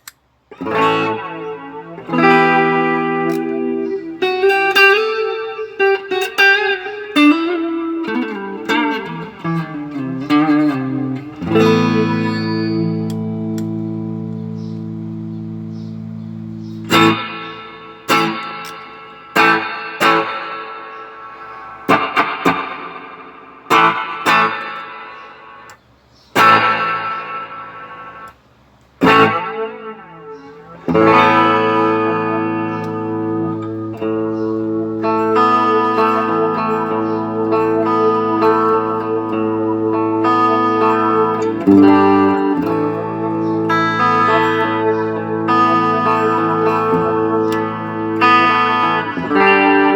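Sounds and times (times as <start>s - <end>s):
electric guitar chords with reverb: 0.5s - 49.9s.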